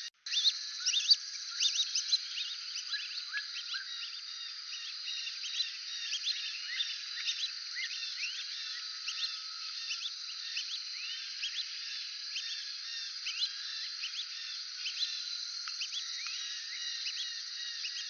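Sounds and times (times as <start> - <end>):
birds whistling calls: 0.0 - 18.0.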